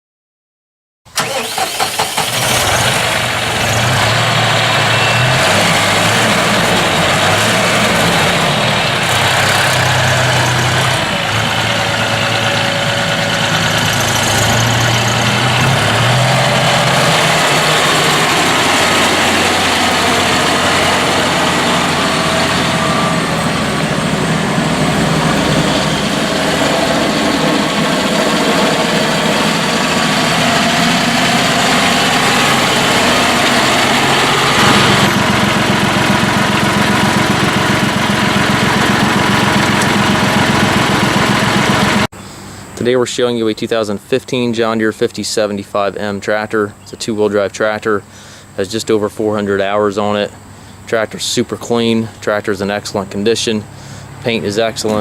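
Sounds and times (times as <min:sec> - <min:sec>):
diesel tractor engine starting and idling: 0:01.1 - 0:55.0.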